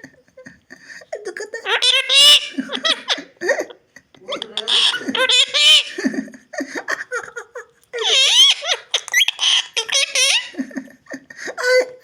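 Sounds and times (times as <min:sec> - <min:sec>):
high-pitched giggling laughter: 0:00.0 - 0:12.0.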